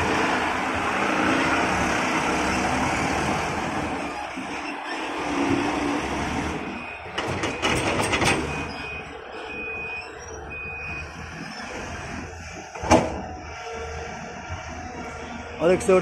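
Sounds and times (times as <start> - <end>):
diesel engines rumbling: 0.0 - 16.0.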